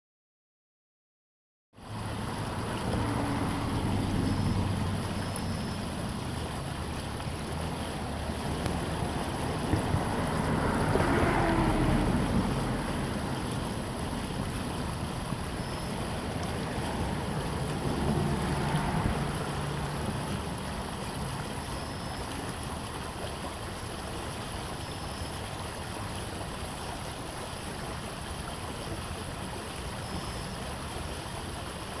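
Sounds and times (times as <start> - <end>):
brook running and rippling: 1.8 - 32.0.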